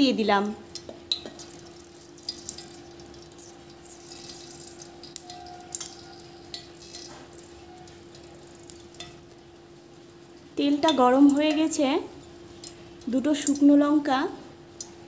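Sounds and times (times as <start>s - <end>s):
oil crackling in a wok: 0.0s - 15.0s.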